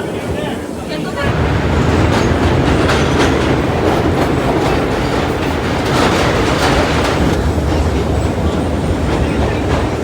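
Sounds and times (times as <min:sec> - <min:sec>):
subway cars rumbling: 0:00.0 - 0:10.0
steel wheels clacking over rail joints: 0:01.3 - 0:10.0.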